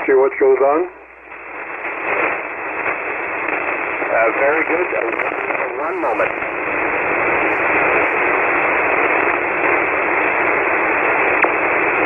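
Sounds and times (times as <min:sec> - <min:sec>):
radio band noise hiss: 0:00.0 - 0:12.0.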